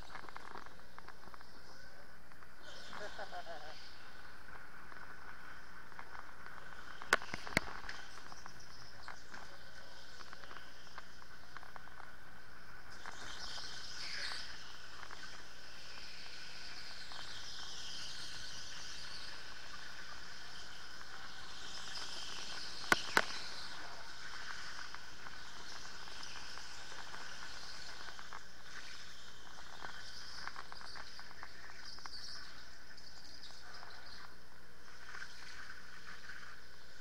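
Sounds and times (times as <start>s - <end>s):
tyre and track noise: 0.0s - 37.0s.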